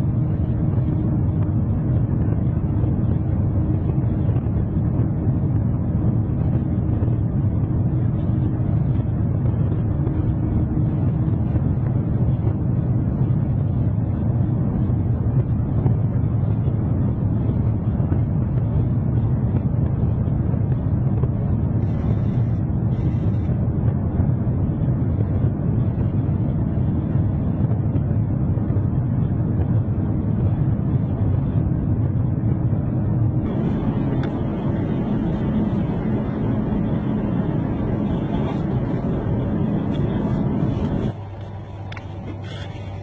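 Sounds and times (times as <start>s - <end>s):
faint steady hum: 0.0s - 43.0s
vehicle rumble: 0.0s - 43.0s.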